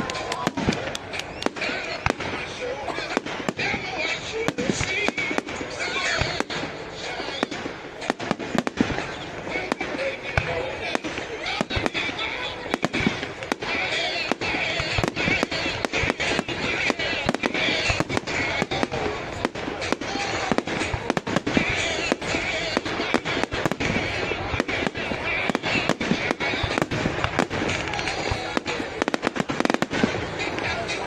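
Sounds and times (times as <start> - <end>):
fireworks crackling: 0.0 - 31.0.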